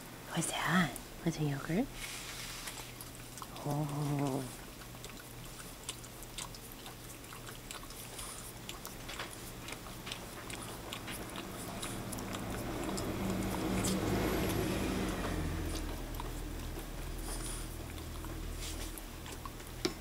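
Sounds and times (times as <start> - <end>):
low steady hum: 0.0 - 20.0
dog licking a metal spoon: 2.7 - 19.9.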